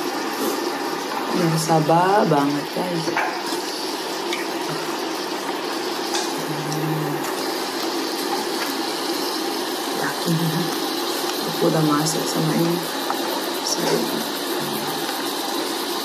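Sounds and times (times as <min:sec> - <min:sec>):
broth bubbling in a pot: 0:00.0 - 0:16.0.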